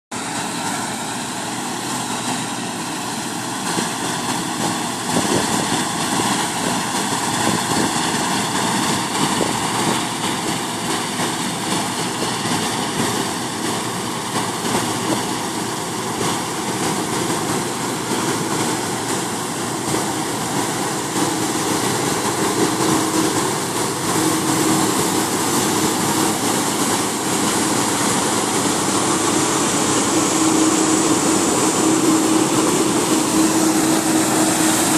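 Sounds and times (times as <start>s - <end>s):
combine harvester and tractor engines: 0.1s - 34.9s
grain unloading through auger: 0.2s - 34.9s.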